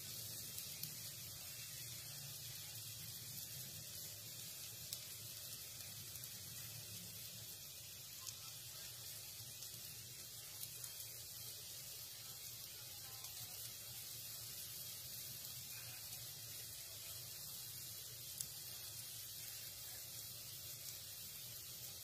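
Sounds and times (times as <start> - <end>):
garlic sizzling in hot oil: 0.0 - 22.0.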